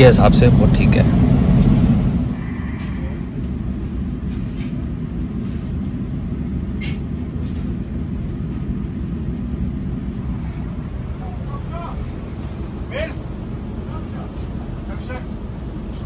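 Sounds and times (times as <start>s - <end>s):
train carriage rumble: 0.0s - 16.0s.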